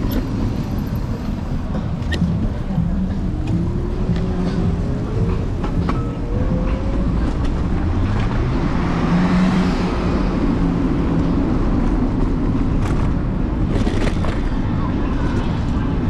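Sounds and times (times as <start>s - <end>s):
road rumble: 0.0s - 16.0s.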